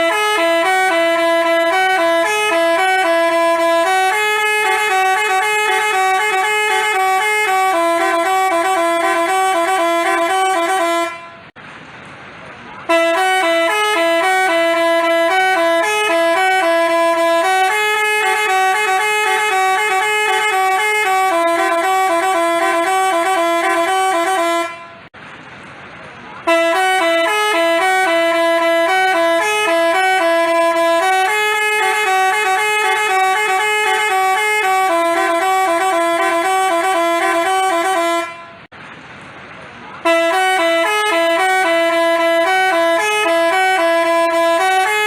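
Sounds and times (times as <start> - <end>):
multi-tone horn melody: 0.0 - 11.6, 12.8 - 25.1, 26.4 - 38.7, 40.0 - 45.0.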